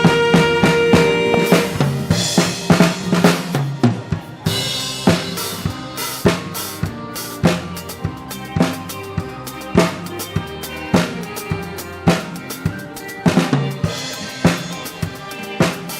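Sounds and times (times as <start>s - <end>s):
bass line: 0.0s - 14.7s
drum kit beat: 0.0s - 15.9s.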